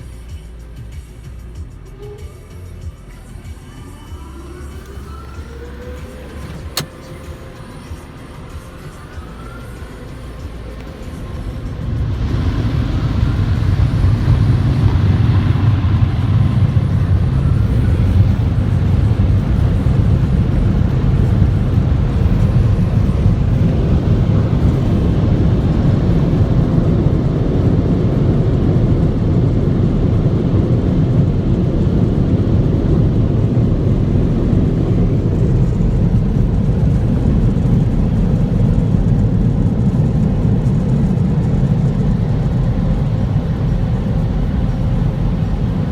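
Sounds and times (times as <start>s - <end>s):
car wash machinery rumbling: 0.0s - 45.9s.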